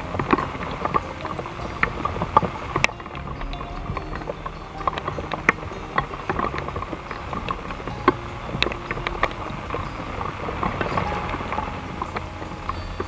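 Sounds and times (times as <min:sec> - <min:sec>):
rain falling: 0:00.0 - 0:13.0
raindrops tapping: 0:00.0 - 0:13.0
steady low rumble: 0:00.0 - 0:13.0.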